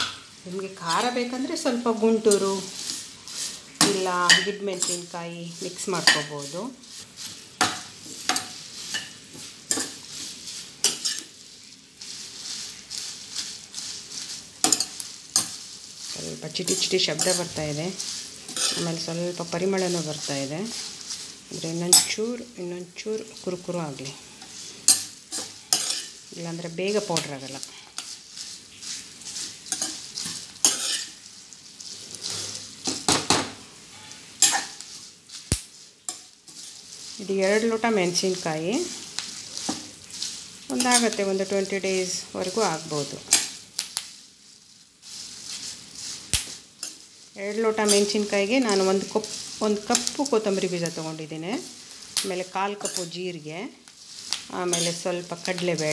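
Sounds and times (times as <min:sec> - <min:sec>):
dried chillies crackling in oil: 0:00.0 - 0:55.9
ladle scraping pan: 0:00.8 - 0:22.3, 0:23.4 - 0:43.8, 0:44.6 - 0:55.9.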